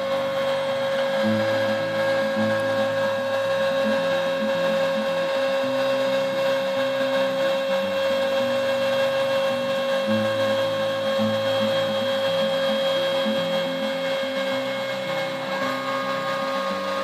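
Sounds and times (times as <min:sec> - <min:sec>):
router spindle high whine: 0:00.0 - 0:17.0
stepper motor tones: 0:00.0 - 0:17.0.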